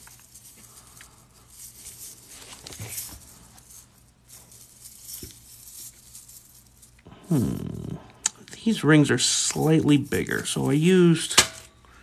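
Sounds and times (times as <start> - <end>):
metal rings jingling: 0.0 - 7.6, 8.5 - 11.8.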